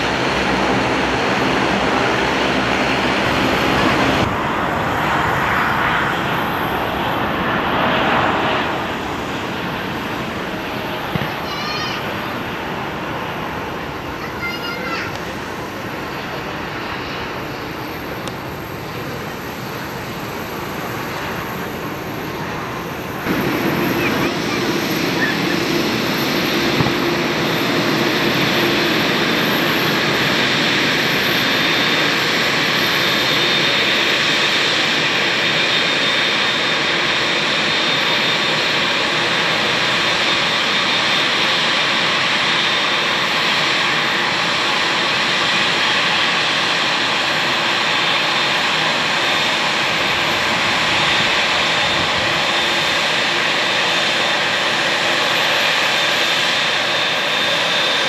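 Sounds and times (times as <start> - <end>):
jet engines whining at taxi power: 0.0 - 58.0.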